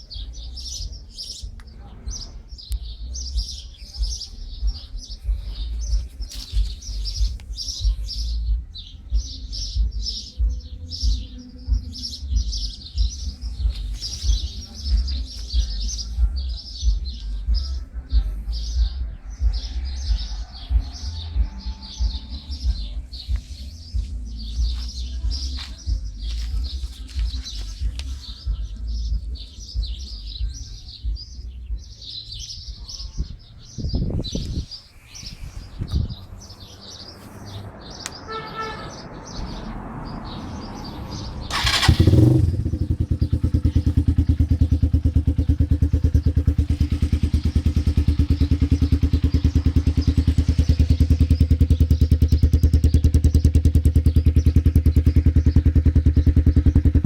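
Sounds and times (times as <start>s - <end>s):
birds chirping: 0.0s - 57.0s
motorcycle engine starting and idling: 0.1s - 31.2s, 35.6s - 57.0s.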